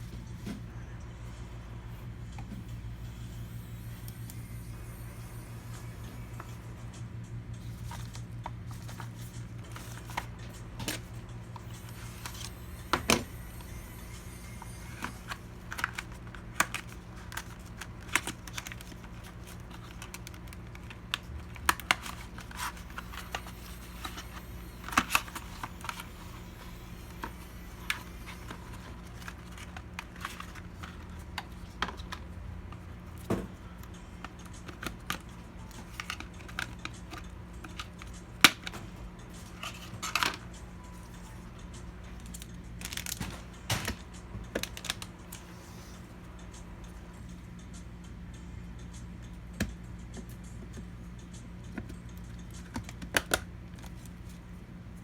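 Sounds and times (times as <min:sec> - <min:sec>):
low hum: 0:00.0 - 0:50.1.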